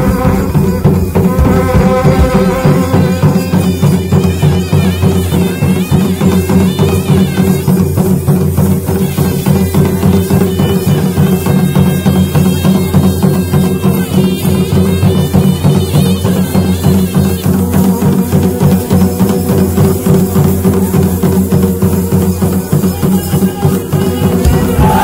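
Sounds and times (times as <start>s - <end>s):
droning wind instrument: 0.0s - 25.0s
folk drums beating: 0.0s - 25.0s
piping melody: 0.0s - 25.0s.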